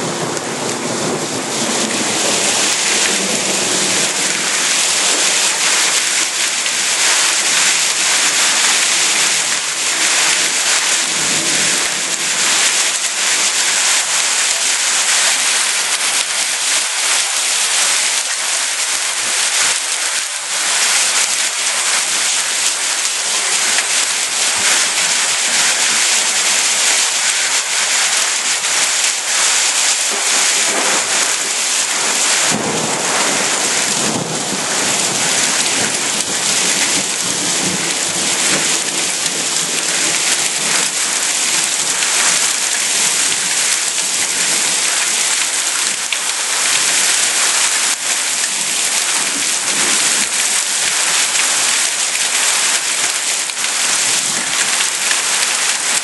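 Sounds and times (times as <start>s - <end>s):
heavy rain and hail on lawn: 0.0s - 56.0s.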